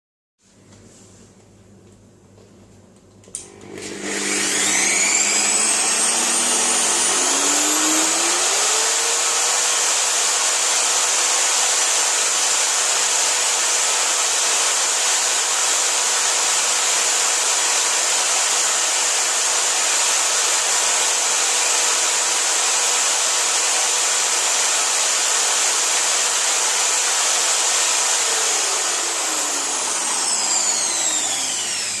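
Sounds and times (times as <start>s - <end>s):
electric drill motor whine: 3.4s - 32.0s.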